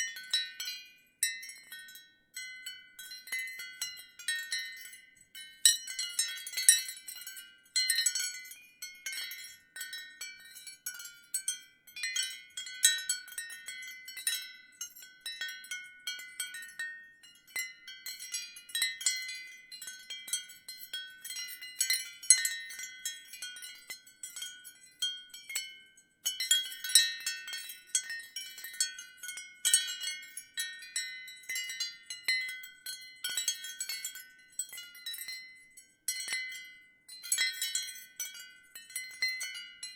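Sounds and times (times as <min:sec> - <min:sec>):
ceramic wind chimes clinking: 0:00.0 - 0:39.9.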